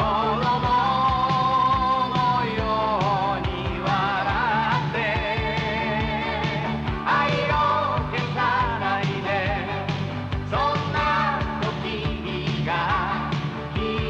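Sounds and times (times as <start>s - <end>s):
band with steady beat: 0.0s - 14.0s
person singing: 0.0s - 14.0s.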